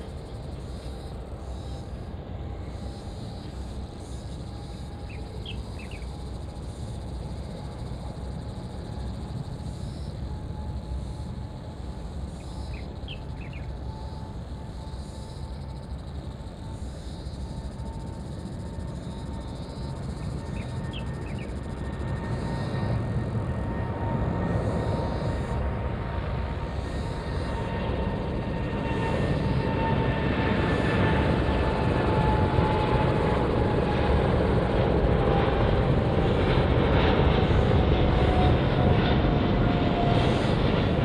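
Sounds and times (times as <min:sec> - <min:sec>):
distant jet engine rumble: 0:00.0 - 0:41.0
faint jet engine whine: 0:00.0 - 0:41.0.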